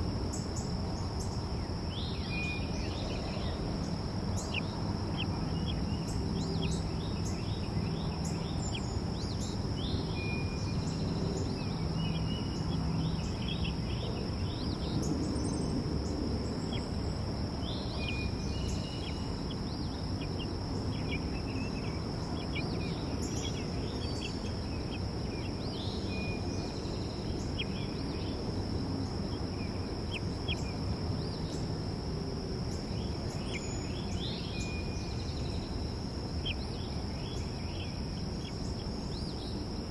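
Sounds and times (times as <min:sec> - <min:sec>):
high insect drone: 0:00.0 - 0:39.9
songbirds chirping: 0:00.0 - 0:39.9.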